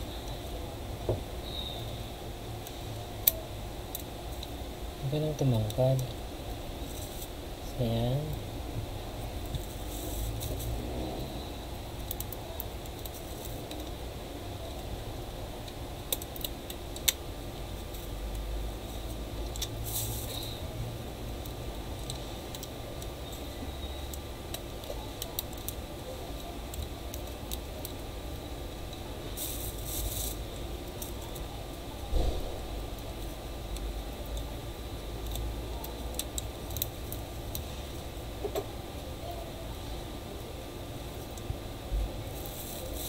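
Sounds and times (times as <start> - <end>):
low background hum: 0.0 - 43.0.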